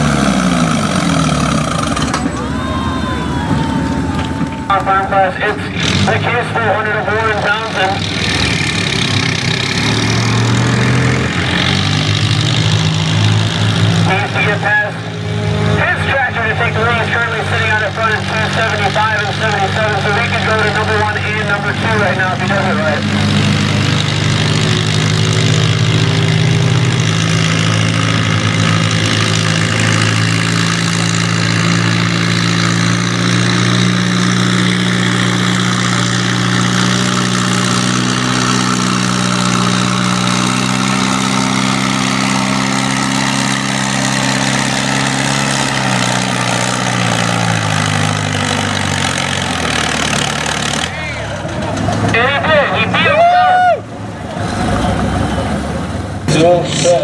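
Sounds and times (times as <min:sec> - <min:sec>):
tractor engine at high revs: 0:00.0 - 0:57.0.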